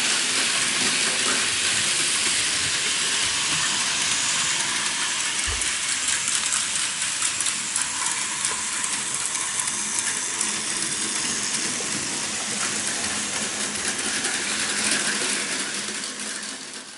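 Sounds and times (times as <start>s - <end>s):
toy train motors whirring: 0.0s - 16.9s
wheels clicking over track joints: 0.0s - 16.9s.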